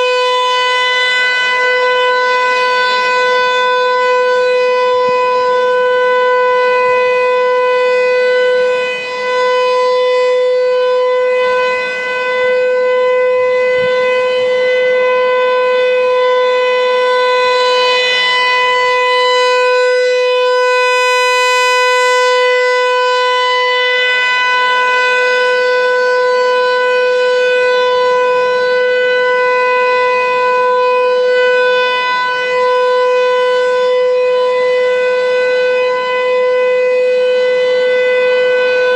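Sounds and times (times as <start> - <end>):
siren steady tone: 0.0 - 38.9.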